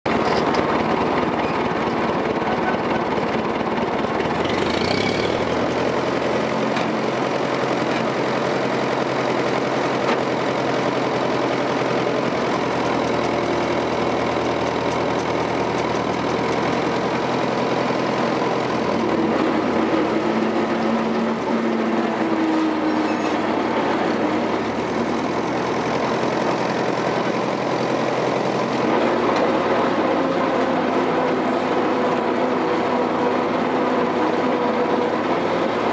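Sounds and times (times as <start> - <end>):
loader engine running: 0.1 - 35.9.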